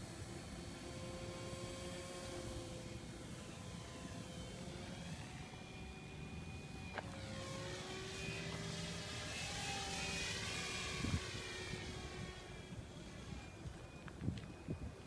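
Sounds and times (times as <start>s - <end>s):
model helicopter rotor whining: 0.0s - 15.0s.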